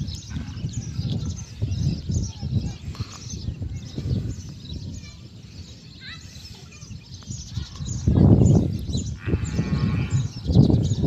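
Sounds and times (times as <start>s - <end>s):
small birds chirping: 0.0s - 11.0s
wind rumbling on microphone: 0.0s - 11.0s.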